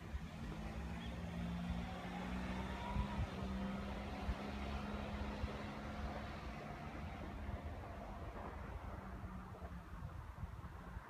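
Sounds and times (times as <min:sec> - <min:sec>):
wind rumble on microphone: 0:01.6 - 0:11.0.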